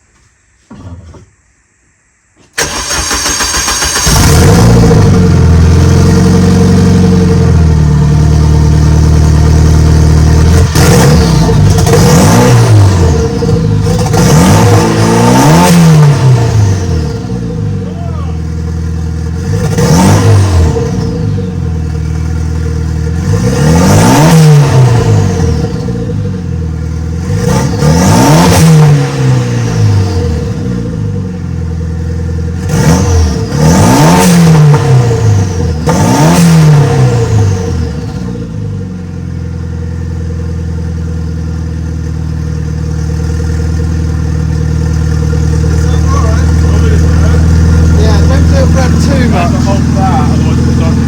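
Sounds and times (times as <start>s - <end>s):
turbo car engine revving: 2.6s - 51.0s.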